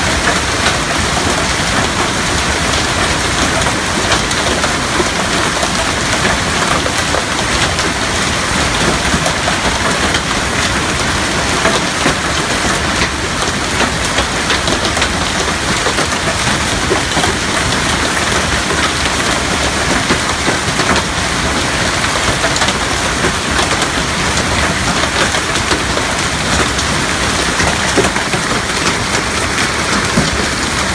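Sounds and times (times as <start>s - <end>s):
hail clattering: 0.0s - 30.9s.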